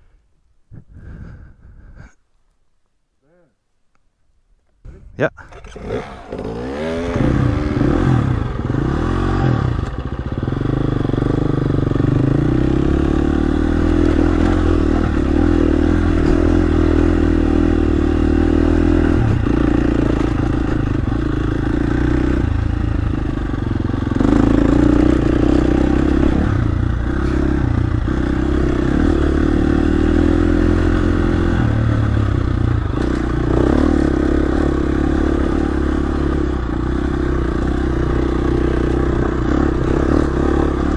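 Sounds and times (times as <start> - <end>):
dirt bike engine revving: 5.4 - 40.9.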